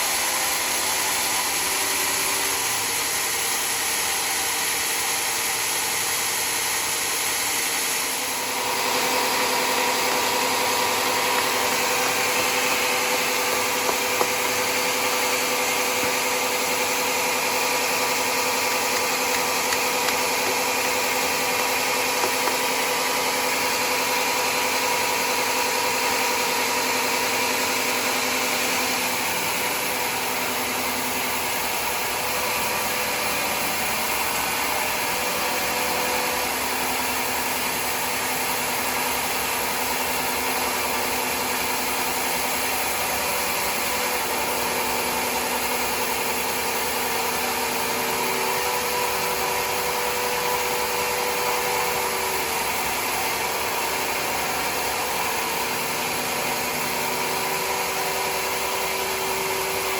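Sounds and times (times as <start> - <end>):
sawmill sawing wood: 0.0 - 59.9.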